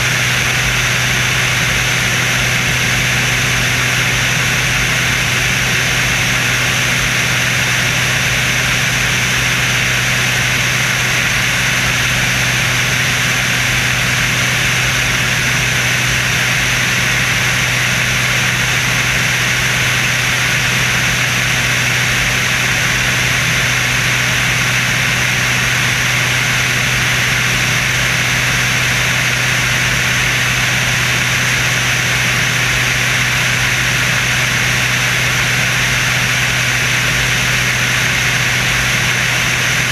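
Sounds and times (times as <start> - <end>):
aircraft engine hum: 0.0 - 39.9.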